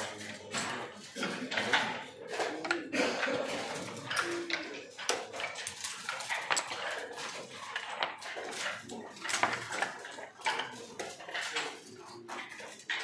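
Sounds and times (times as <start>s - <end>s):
game checkers clacking on board: 0.0s - 13.0s.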